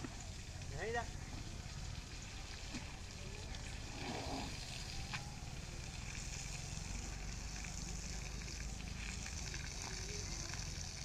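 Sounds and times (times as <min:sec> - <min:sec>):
hose water spraying and splashing: 0:00.0 - 0:11.0.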